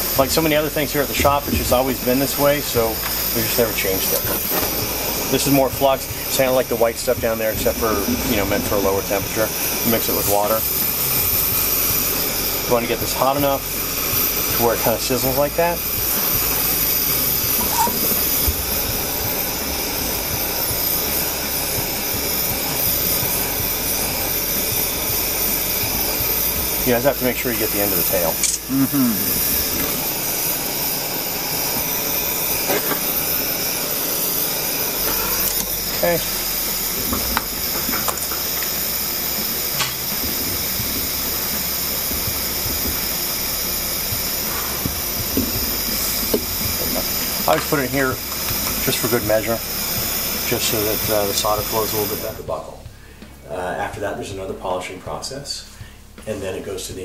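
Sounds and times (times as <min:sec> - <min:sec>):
gas torch hissing: 0:00.0 - 0:57.0.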